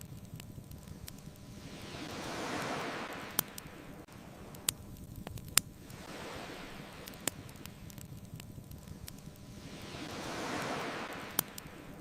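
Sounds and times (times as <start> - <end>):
fire pops: 0.0 - 12.0
wood fire crackling: 0.0 - 12.0
ocean surf: 0.9 - 12.0.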